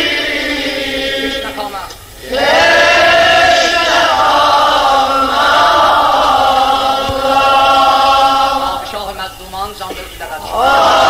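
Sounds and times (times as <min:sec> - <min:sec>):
person chanting a lament: 0:00.0 - 0:09.3.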